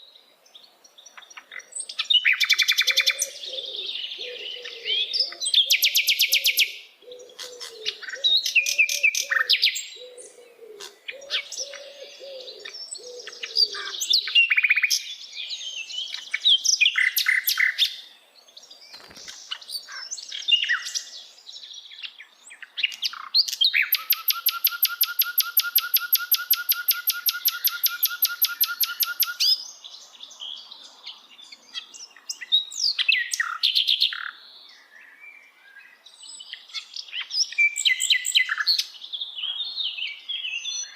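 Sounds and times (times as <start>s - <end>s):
bird singing high chirps and trills: 0.0s - 40.9s.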